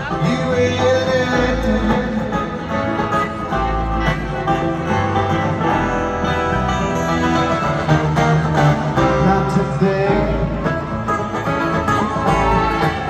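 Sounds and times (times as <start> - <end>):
bluegrass band playing: 0.0 - 13.0.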